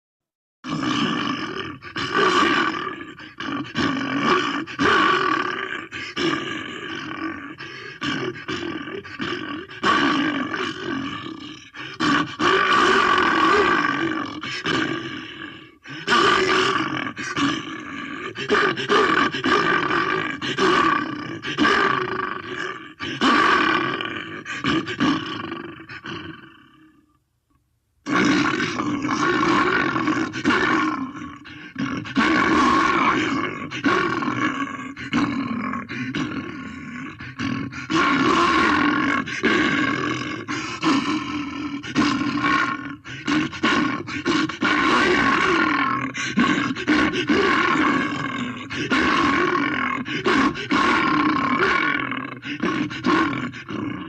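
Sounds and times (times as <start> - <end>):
monster roars and growls: 0.6 - 26.8, 28.1 - 54.0.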